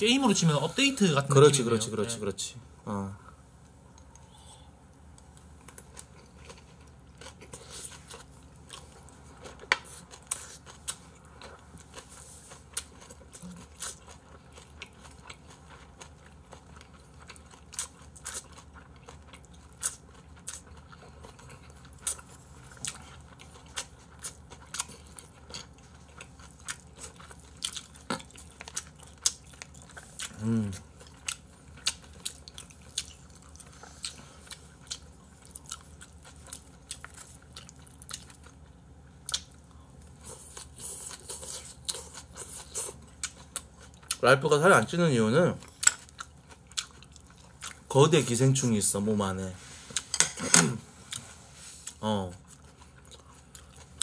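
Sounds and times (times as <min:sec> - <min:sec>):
person chewing with crunches: 0:03.9 - 0:44.2, 0:45.6 - 0:47.9, 0:49.6 - 0:54.0.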